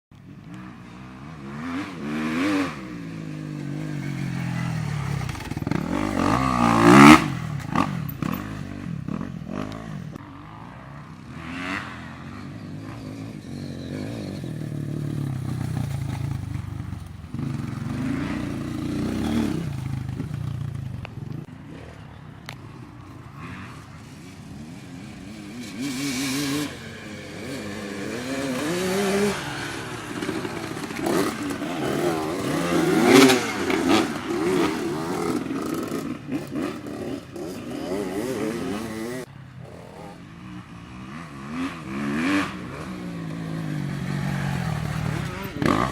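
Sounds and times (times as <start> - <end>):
motorcycle engines revving: 0.2 - 45.9.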